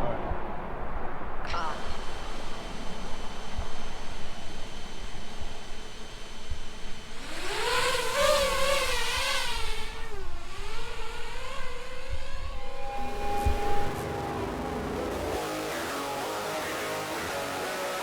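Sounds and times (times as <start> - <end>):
drone motors whining: 1.8 - 17.6.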